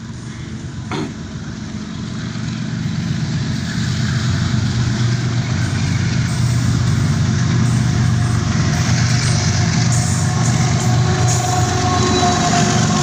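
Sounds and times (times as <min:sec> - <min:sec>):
diesel locomotive engine drone: 0:00.0 - 0:13.0.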